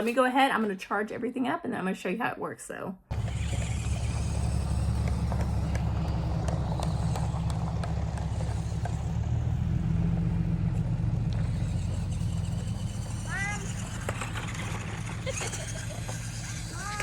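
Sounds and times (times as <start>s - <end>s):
toy truck rumbling over ground: 3.1s - 17.0s.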